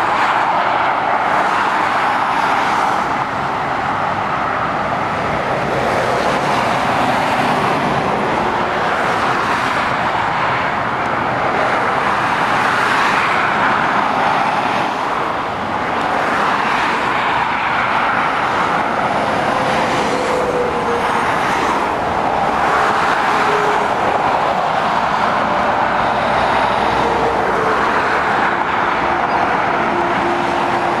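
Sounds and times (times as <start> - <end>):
tyre roar of passing traffic: 0.0 - 31.0.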